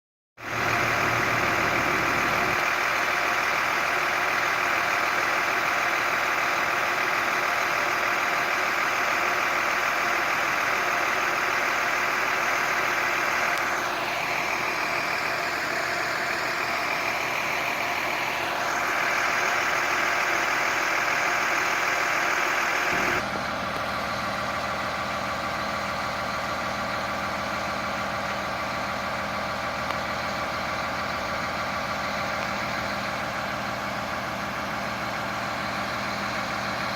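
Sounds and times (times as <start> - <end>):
fire engine idling: 0.4 - 36.9.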